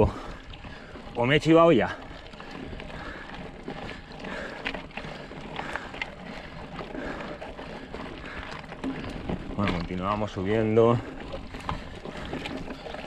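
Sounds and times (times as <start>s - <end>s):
bike tyres rolling on gravel: 0.0s - 13.0s
loose stones crunching: 0.7s - 13.0s.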